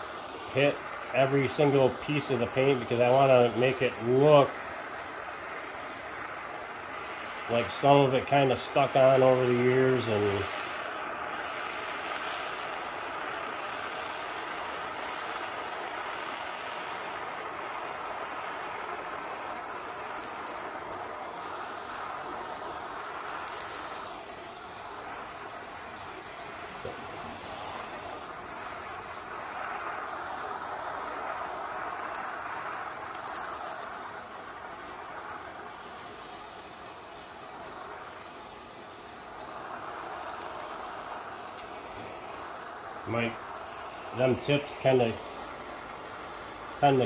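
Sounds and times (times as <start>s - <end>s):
gas torch hissing: 0.0s - 47.0s.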